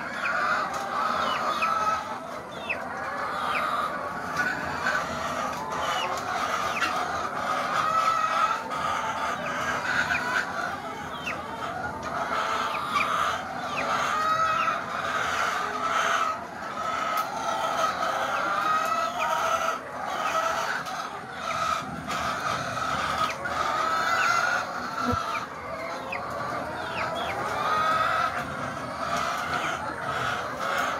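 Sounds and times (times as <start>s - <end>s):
hens clucking: 0.0s - 30.9s.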